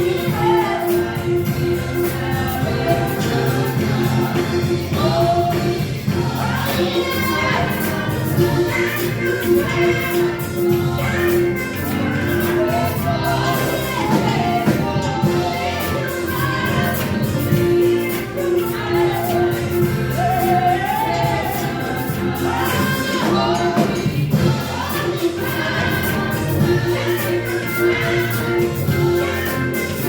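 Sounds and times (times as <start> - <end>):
instrumental accompaniment: 0.0 - 30.0
steady percussion beat: 0.0 - 30.0
voices singing together: 0.0 - 30.0.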